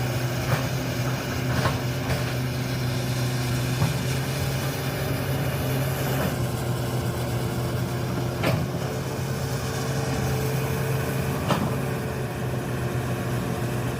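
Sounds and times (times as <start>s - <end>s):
excavator diesel engine running: 0.0s - 13.9s.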